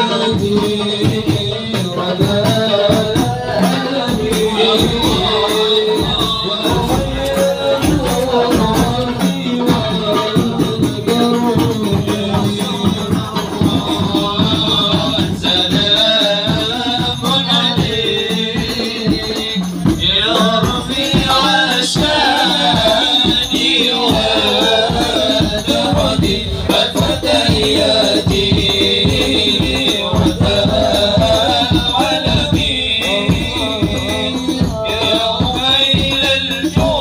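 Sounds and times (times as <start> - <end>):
frame drums: 0.0 - 37.0
jingling percussion: 0.0 - 37.0
men chanting together: 0.0 - 37.0.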